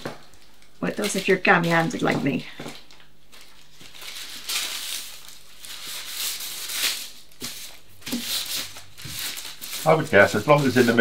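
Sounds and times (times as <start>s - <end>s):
baking paper rustling: 0.0s - 11.0s.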